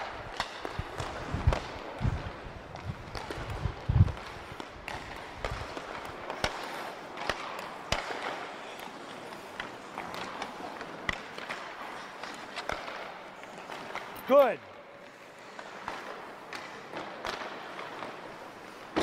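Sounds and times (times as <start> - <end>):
hockey pucks clacking off sticks: 0.0 - 19.0
skates scraping on ice: 0.0 - 19.0.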